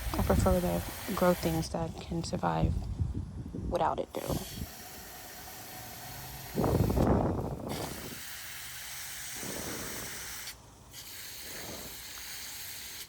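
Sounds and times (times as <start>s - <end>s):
garden hose spray hissing: 0.0s - 2.8s, 4.1s - 13.0s.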